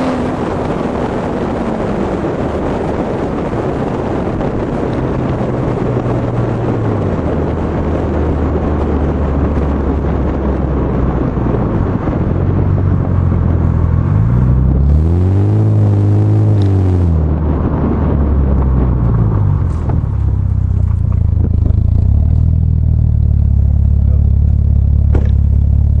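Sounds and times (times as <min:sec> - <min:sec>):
car engine drone: 0:00.0 - 0:26.0
road and wind noise: 0:00.0 - 0:26.0.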